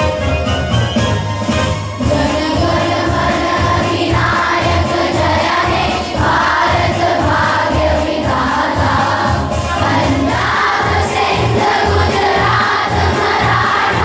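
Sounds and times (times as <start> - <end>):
musical accompaniment: 0.0 - 14.0
children singing in chorus: 2.0 - 14.0.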